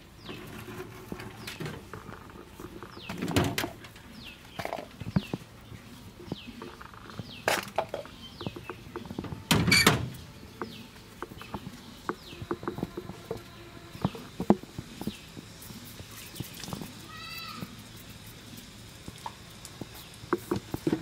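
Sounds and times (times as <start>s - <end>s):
bird chirping: 0.0s - 18.6s.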